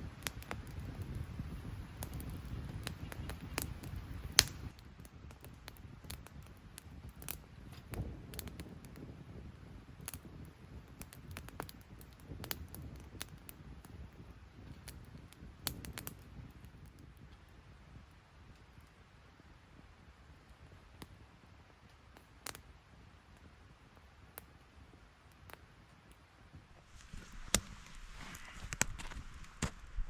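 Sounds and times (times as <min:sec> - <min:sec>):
wood fire crackling in a stove: 0:00.0 - 0:30.0.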